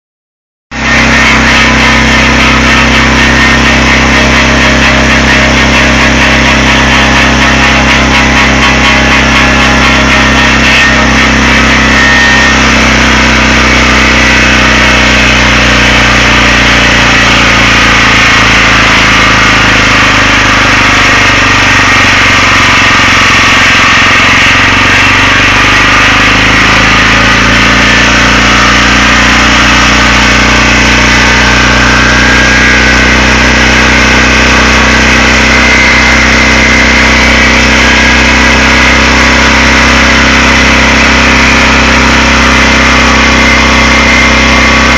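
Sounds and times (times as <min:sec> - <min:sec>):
sawmill engine running: 0:00.7 - 0:44.9.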